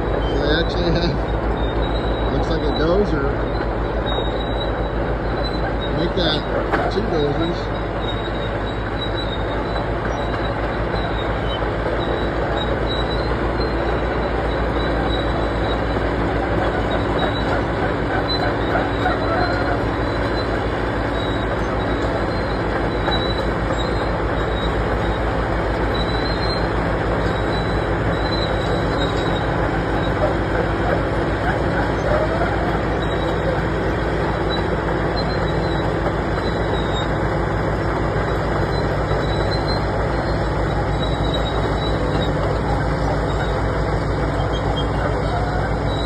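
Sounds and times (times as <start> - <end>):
diesel engine low pulsing rumble: 0.0 - 46.0
high-pitched wheel squeal: 0.0 - 46.0.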